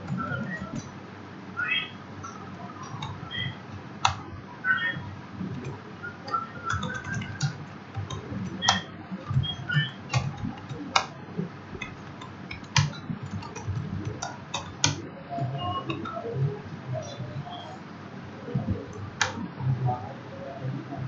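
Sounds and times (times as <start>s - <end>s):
computer keyboard typing: 0.0s - 1.0s, 2.2s - 17.5s, 18.4s - 19.4s.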